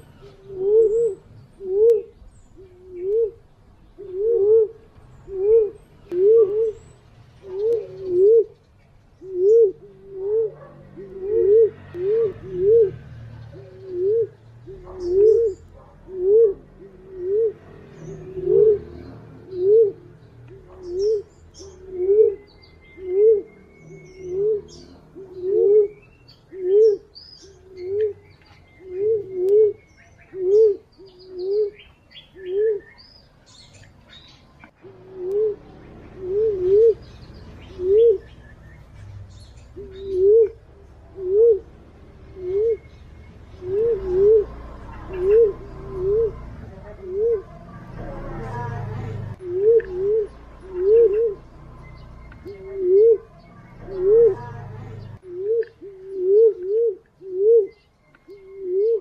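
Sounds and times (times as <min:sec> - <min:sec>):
pigeon cooing call: 0:00.0 - 0:08.6, 0:09.2 - 0:59.0
small birds chirping: 0:00.0 - 0:59.0.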